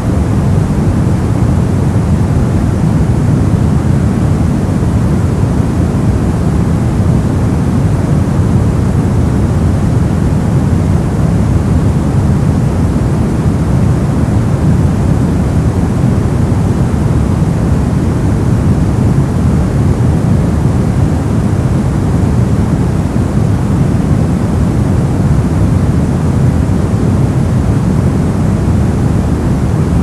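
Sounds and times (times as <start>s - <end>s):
brown noise: 0.0s - 30.0s.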